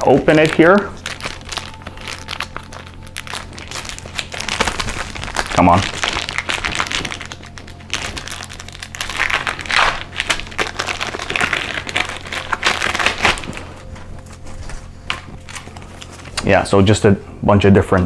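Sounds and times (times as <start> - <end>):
plastic wrapper crinkling: 0.0 - 16.8.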